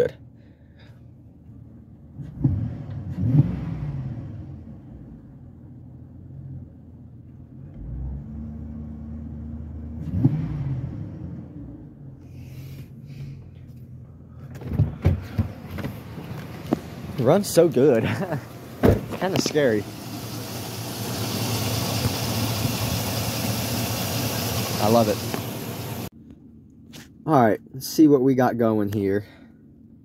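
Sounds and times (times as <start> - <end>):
truck engine idling and revving: 1.1 - 27.2.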